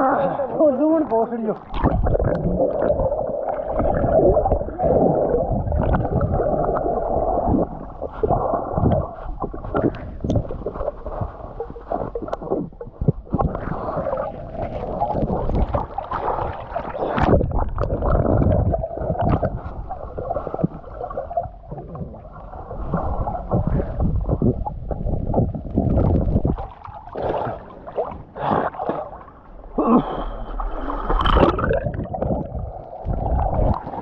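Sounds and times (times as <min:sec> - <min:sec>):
underwater gurgling and sloshing: 0:00.0 - 0:34.0.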